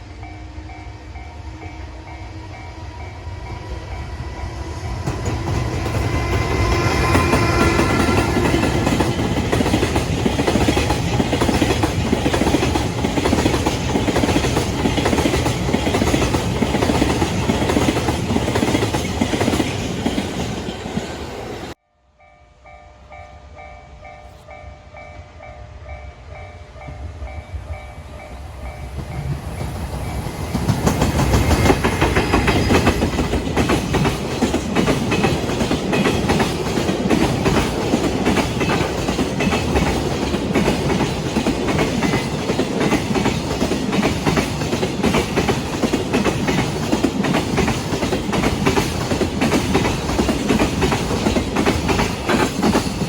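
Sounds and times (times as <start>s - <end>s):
train clickety-clack over rail joints: 0.0s - 21.8s, 26.4s - 53.0s.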